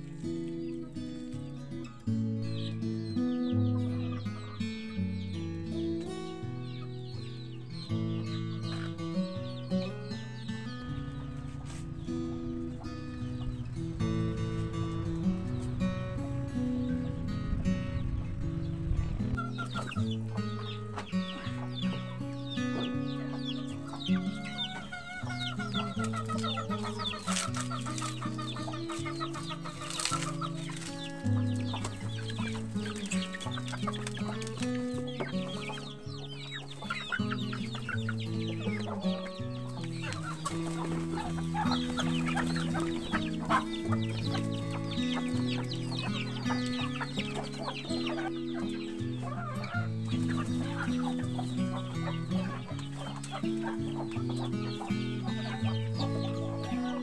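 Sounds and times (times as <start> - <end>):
background music with low bass: 0.0 - 57.0
chickens clucking: 0.0 - 57.0.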